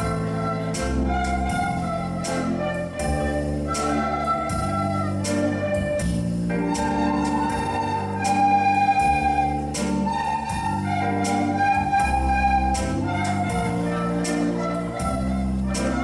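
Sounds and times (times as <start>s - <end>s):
bass and beat accompaniment: 0.0s - 16.0s
children playing recorders: 0.0s - 16.0s.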